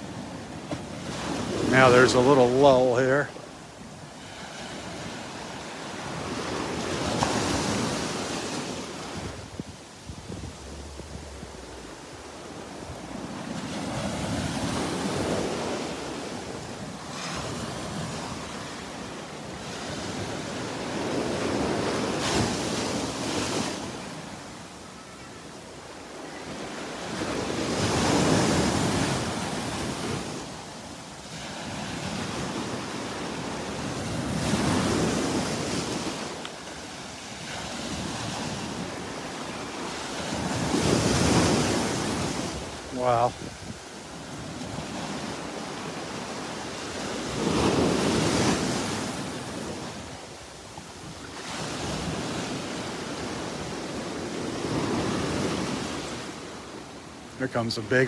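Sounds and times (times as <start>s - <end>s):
surf breaking on shore: 0.0s - 58.0s.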